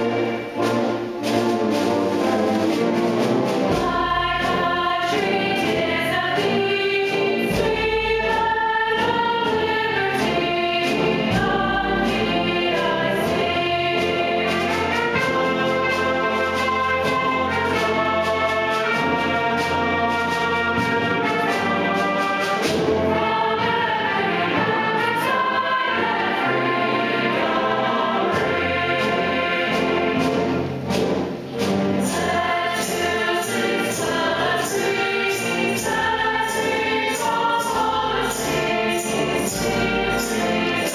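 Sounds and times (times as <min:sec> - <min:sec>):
choir singing long notes: 0:00.0 - 0:40.9
instrumental accompaniment: 0:00.0 - 0:40.9.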